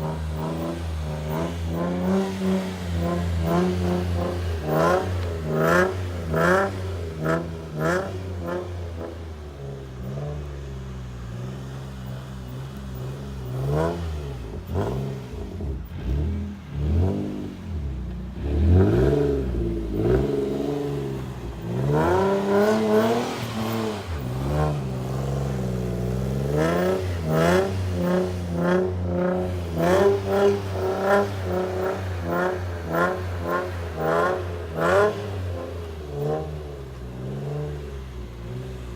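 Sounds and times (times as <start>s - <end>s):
car engine revving loudly: 0.0s - 38.9s.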